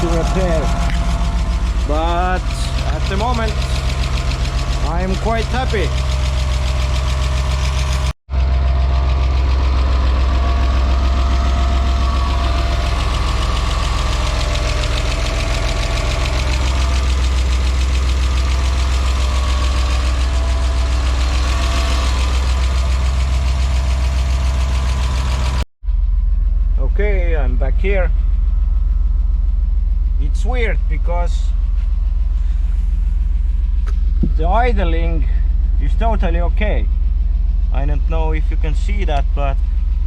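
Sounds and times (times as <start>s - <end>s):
car engine idling with knocking: 0.0s - 25.6s, 27.0s - 40.0s.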